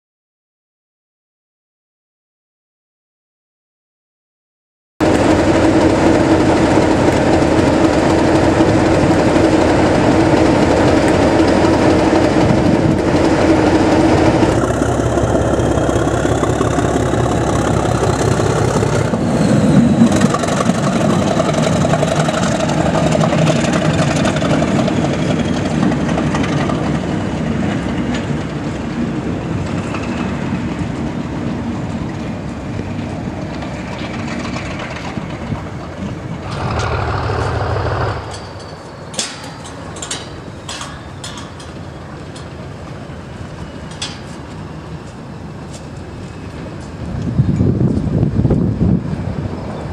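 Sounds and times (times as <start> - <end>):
locomotive diesel engine running: 5.0 - 49.9.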